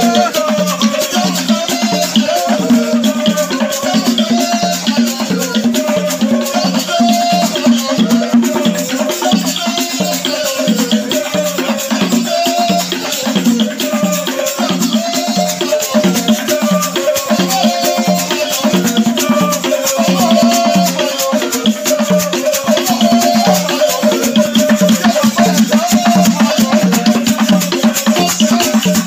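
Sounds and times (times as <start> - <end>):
drum beat: 0.0 - 29.0
rattles or shakers: 0.0 - 29.0.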